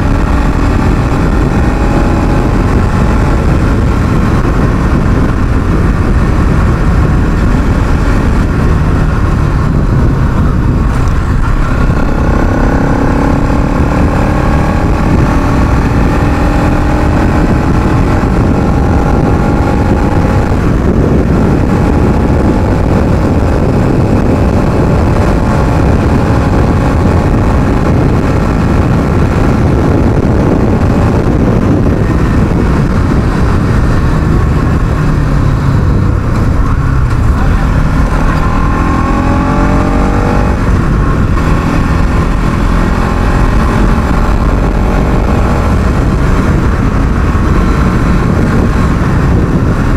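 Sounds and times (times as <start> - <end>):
motorcycle engine revving: 0.0 - 49.9
wind rush on microphone: 0.0 - 49.9.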